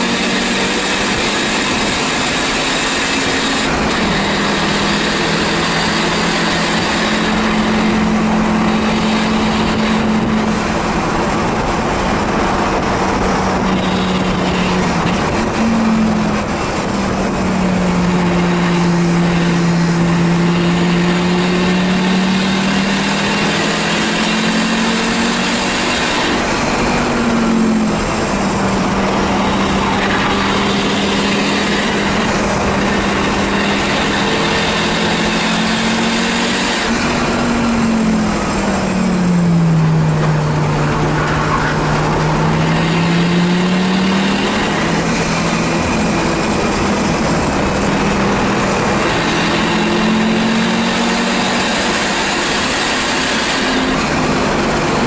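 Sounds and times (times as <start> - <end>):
race car engine running hard: 0.0 - 55.0
road noise: 0.0 - 55.0
wind noise: 0.0 - 55.0.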